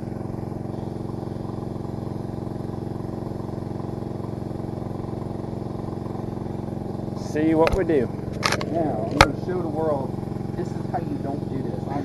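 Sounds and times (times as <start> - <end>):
welder generator engine running: 0.0 - 12.0.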